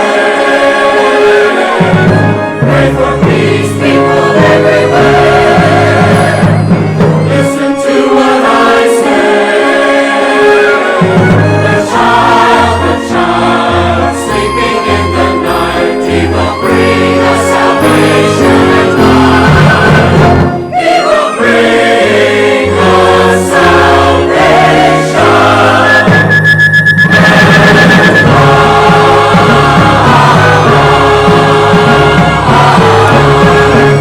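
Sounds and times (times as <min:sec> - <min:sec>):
church choir singing: 0:00.0 - 0:34.0
instrumental accompaniment: 0:00.0 - 0:34.0.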